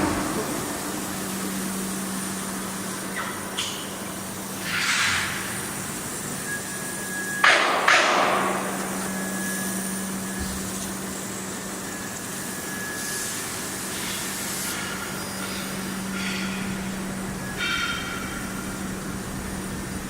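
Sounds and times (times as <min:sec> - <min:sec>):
welding machine humming and hissing: 0:00.0 - 0:20.0.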